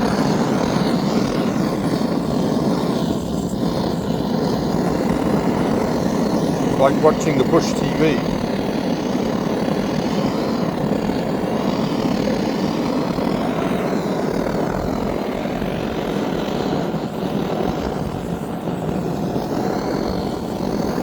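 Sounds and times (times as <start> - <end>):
gas torch flame roaring: 0.0 - 21.0.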